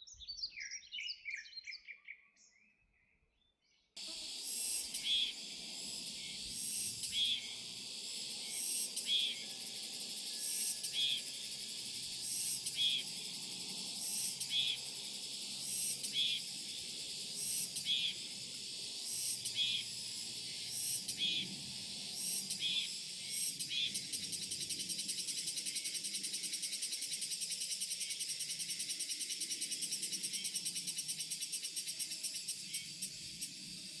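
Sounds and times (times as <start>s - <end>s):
cicadas singing: 4.0s - 34.0s.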